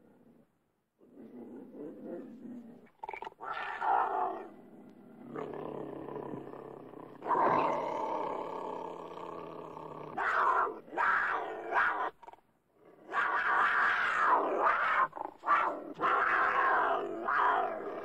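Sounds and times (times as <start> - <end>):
cougar growling: 0.0 - 18.0
cougar snarling: 1.0 - 18.0.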